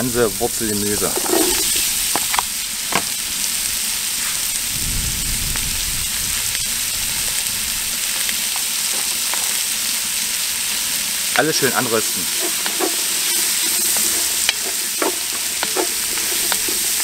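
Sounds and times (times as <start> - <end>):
vegetables sizzling in fat: 0.0 - 17.0.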